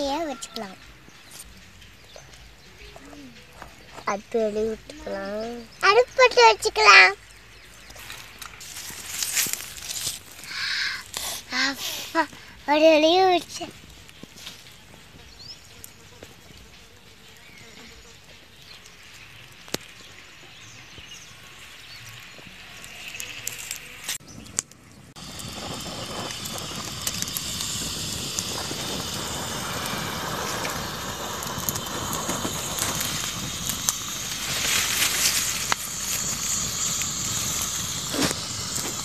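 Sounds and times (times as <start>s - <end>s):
faint outdoor background: 0.0s - 39.0s
fire crackling and popping: 0.0s - 39.0s.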